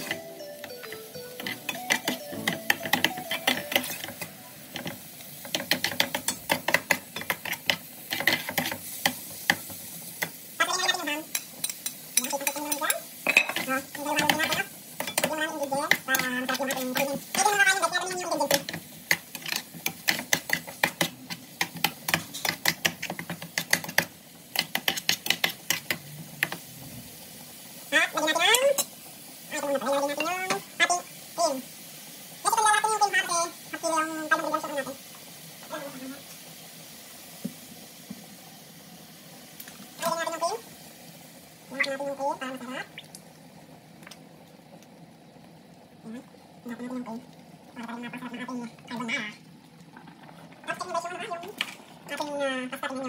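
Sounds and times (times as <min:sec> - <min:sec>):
food frying in oil: 0:00.0 - 0:53.0.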